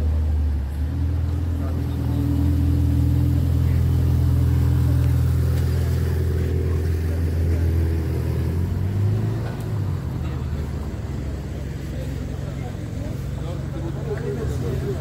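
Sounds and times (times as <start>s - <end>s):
car engine low drone: 0.0s - 15.0s.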